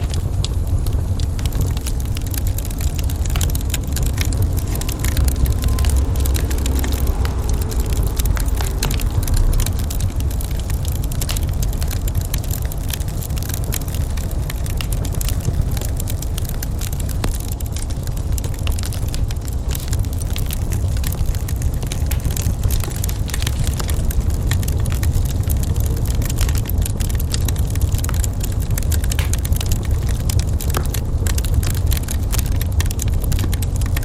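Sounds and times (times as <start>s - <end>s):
low fire rumble: 0.0s - 34.0s
wood fire crackling and popping: 0.0s - 34.0s.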